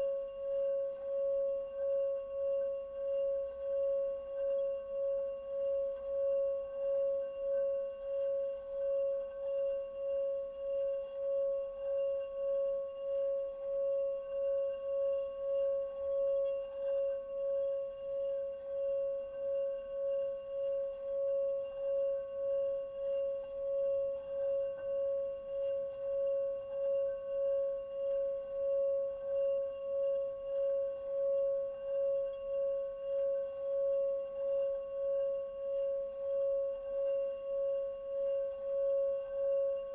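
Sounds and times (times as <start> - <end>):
singing bowl ringing tone: 0.0 - 39.9.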